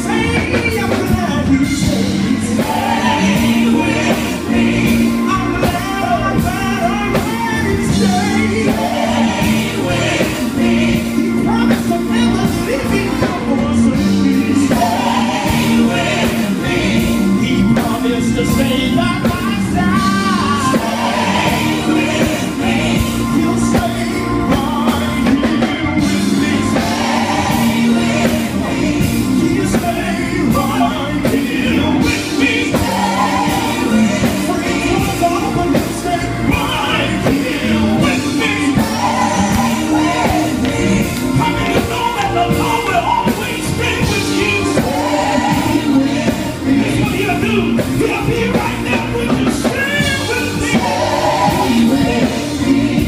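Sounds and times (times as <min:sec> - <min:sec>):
band with a steady beat: 0:00.0 - 0:53.0
gospel group singing: 0:00.0 - 0:53.0.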